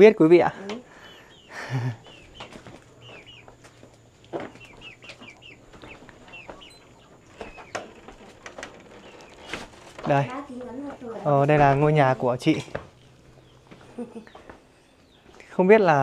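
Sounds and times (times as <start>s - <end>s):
chickens calling: 0.3s - 16.0s.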